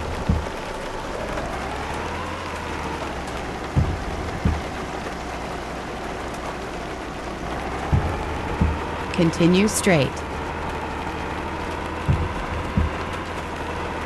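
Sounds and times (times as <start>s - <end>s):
low thumps: 0.0s - 14.0s
truck engine hum: 0.0s - 14.0s.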